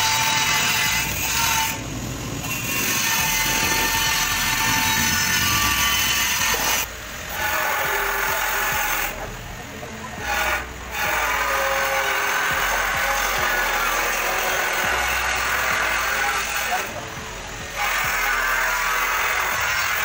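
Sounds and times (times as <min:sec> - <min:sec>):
power tool on sheet metal: 0:00.0 - 0:09.5, 0:10.1 - 0:20.0.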